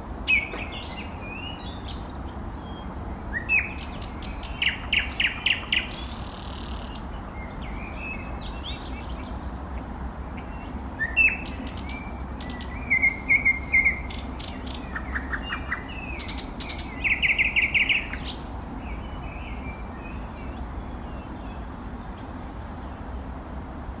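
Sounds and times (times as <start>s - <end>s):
nightingale singing: 0.0s - 23.0s.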